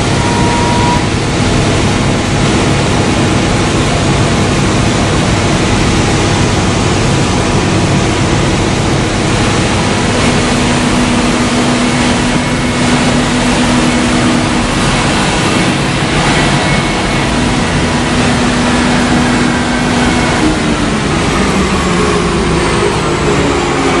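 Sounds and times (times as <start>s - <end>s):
faint whine: 0.0s - 24.0s
wide belt sander running: 0.0s - 24.0s.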